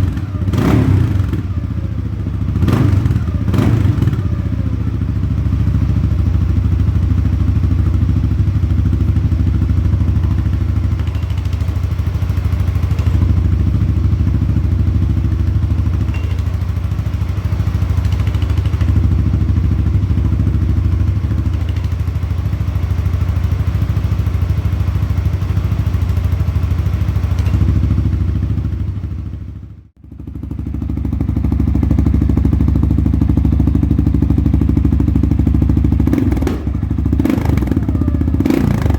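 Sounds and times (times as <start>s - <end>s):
atv engine idling: 0.0s - 38.9s.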